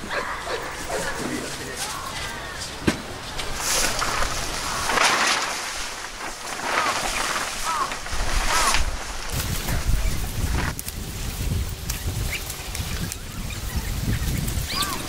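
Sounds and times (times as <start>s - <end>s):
tent fabric rustling: 0.2s - 15.0s.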